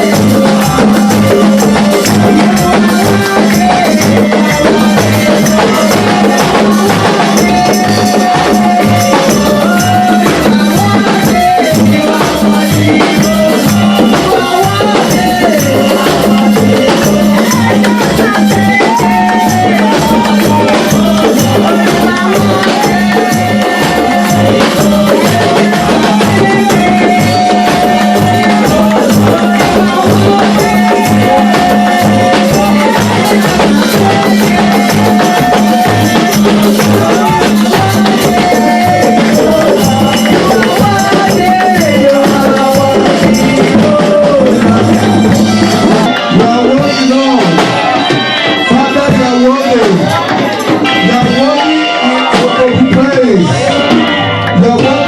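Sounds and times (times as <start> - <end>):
rattling percussion: 0.0 - 51.6
church worship band music: 0.0 - 55.0.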